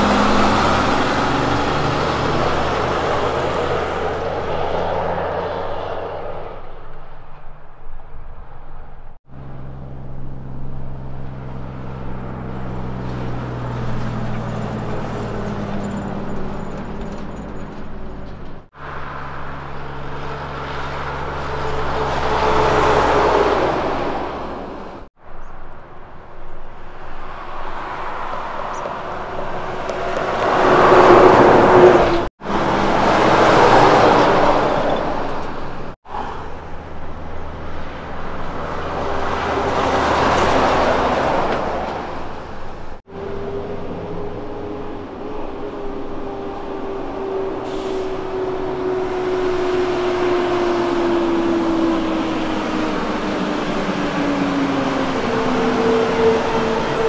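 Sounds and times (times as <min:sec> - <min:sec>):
heavy truck engine drone: 0:00.0 - 0:57.0
tyre and road noise: 0:00.0 - 0:57.0.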